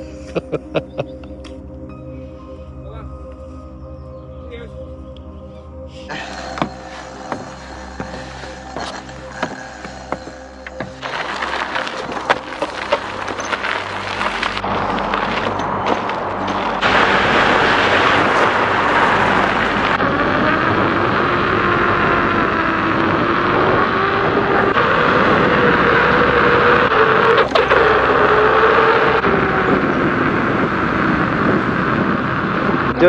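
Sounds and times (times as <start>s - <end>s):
road and wind noise: 0.0s - 1.9s, 6.1s - 33.0s.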